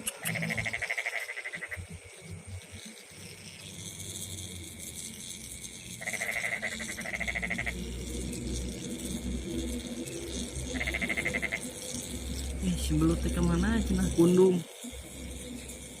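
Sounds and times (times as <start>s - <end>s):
frogs calling: 0.0s - 16.0s
insects trilling: 0.0s - 16.0s.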